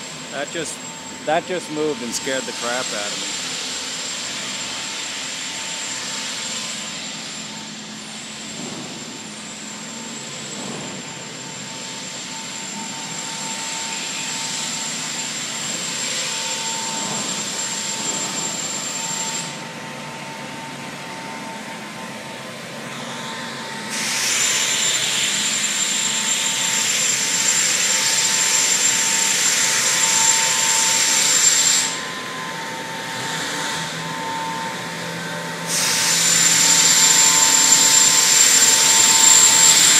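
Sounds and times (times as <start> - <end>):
machinery whine: 0.0 - 39.9.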